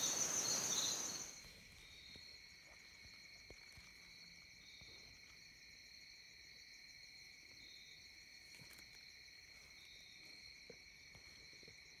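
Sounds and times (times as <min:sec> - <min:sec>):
chorus of night insects: 0:00.0 - 0:12.0
short insect chirp: 0:00.0 - 0:12.0.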